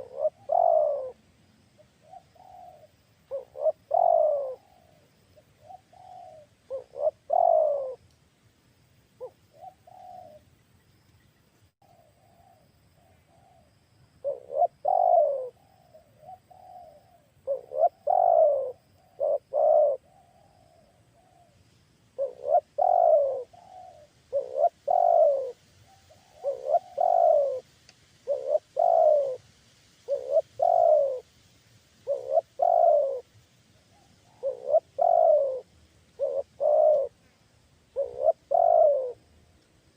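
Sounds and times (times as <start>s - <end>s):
dove cooing: 0.0s - 1.2s, 1.8s - 8.0s, 9.2s - 10.5s, 11.8s - 21.6s, 22.2s - 29.4s, 30.1s - 31.3s, 32.0s - 33.3s, 33.9s - 37.2s, 37.9s - 39.3s.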